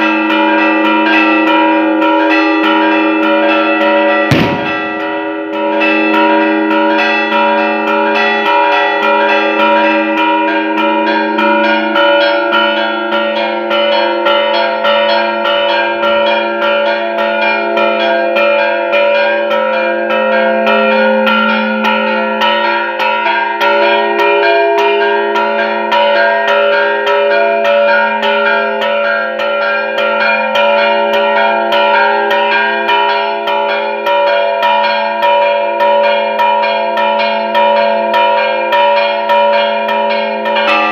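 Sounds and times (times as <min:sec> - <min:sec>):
church bells ringing rapidly: 0:00.0 - 0:40.9.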